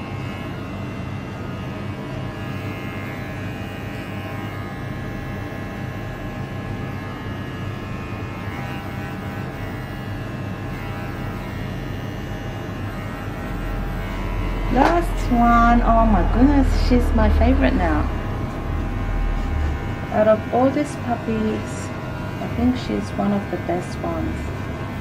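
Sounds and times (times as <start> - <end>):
electric dog clipper humming: 0.0 - 25.0.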